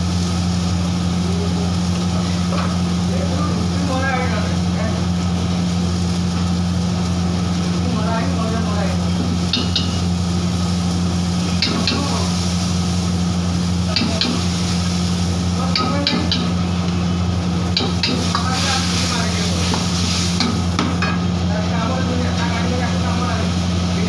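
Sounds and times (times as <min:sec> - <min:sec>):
food sizzling and bubbling in a wok: 0:00.0 - 0:24.0
steady low hum: 0:00.0 - 0:24.0.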